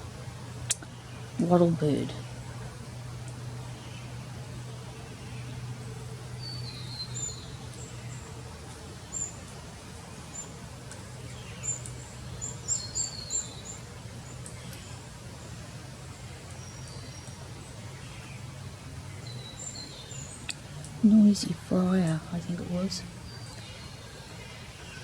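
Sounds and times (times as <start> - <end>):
low steady hum: 0.0 - 25.0
small birds chirping: 0.0 - 25.0.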